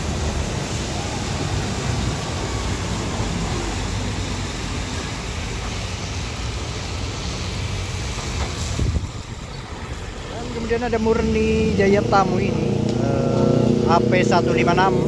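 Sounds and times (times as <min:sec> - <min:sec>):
diesel truck engines: 0:00.0 - 0:15.0
tyres hissing on wet road: 0:00.0 - 0:15.0.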